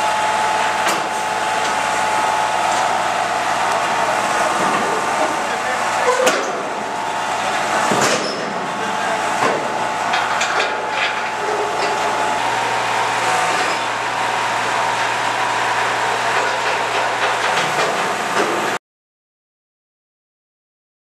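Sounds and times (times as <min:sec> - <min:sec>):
heavy machinery engine drone: 0:00.0 - 0:18.8.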